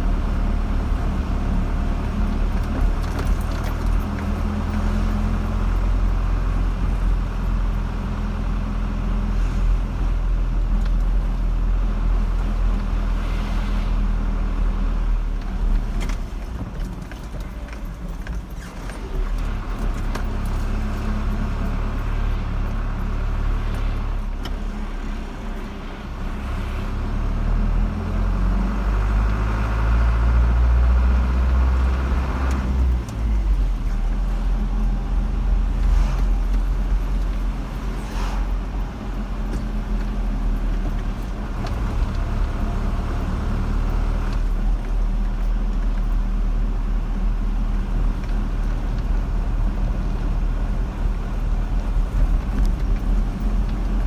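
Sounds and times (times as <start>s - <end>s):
car engine hum: 0.0s - 54.0s.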